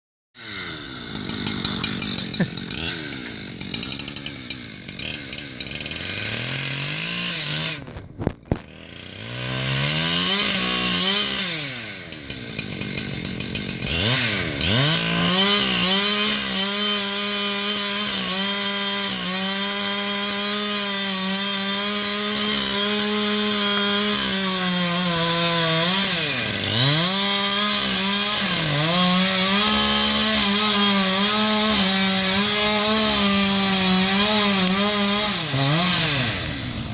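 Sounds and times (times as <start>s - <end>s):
chainsaw revving and cutting: 0.4s - 36.9s.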